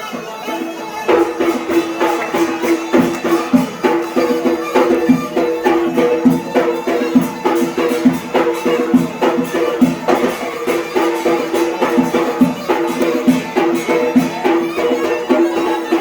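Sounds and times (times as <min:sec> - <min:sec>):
double-pipe reed pipe playing: 0:00.0 - 0:16.0
drums beating: 0:00.0 - 0:16.0.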